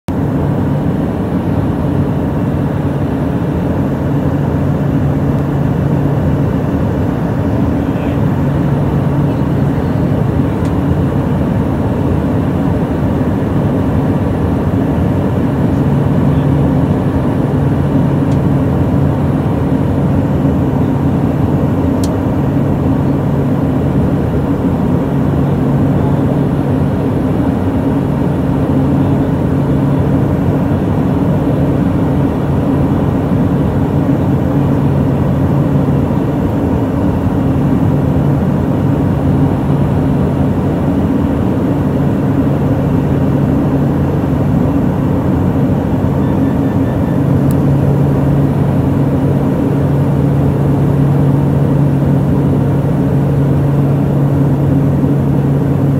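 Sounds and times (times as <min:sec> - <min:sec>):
propeller engine droning: 0:00.1 - 0:55.9.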